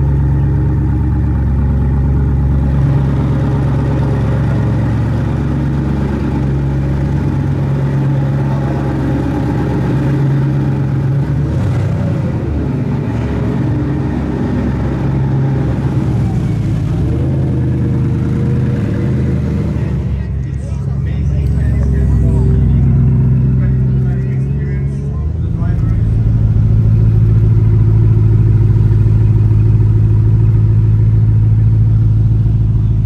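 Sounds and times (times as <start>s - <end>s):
car engine idling deeply: 0.0s - 33.0s.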